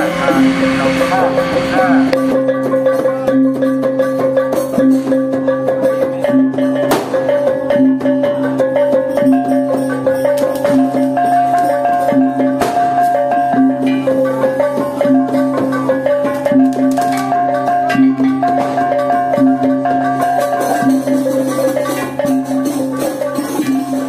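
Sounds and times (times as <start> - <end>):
bamboo xylophone melody: 0.0 - 24.0.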